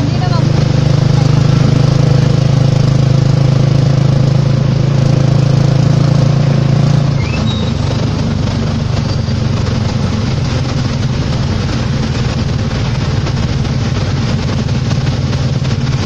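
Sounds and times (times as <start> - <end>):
tyre noise on wet road: 0.0 - 16.0
vehicle engine hum: 0.0 - 16.0.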